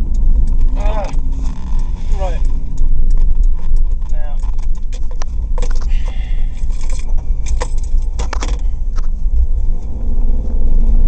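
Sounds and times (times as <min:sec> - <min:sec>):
car engine and road rumble: 0:00.0 - 0:11.0
rattles and clicks in car: 0:00.0 - 0:11.0
steady low hum: 0:00.0 - 0:11.0.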